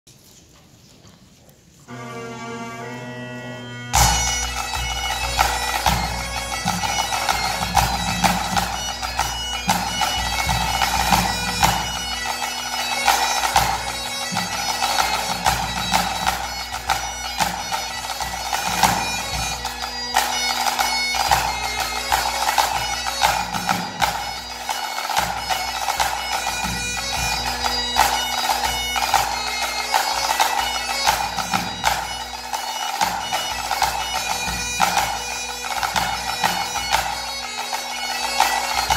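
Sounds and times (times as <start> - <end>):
bagpipe playing over drones: 1.9 - 38.9
tenor drum: 1.9 - 38.9.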